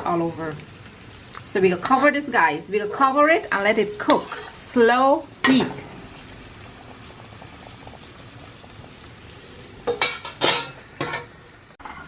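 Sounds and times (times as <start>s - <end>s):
pot bubbling: 0.0s - 12.0s.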